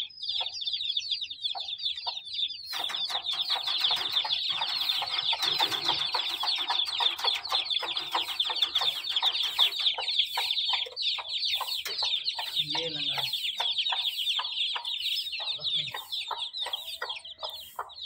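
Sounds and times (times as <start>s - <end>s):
chicks peeping: 0.0s - 18.0s
hen clucking: 0.0s - 18.0s.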